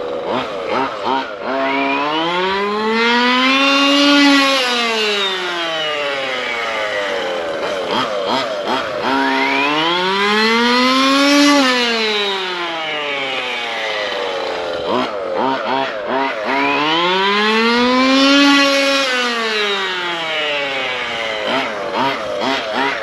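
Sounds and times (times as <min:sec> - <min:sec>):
two-stroke engine revving: 0:00.0 - 0:23.0.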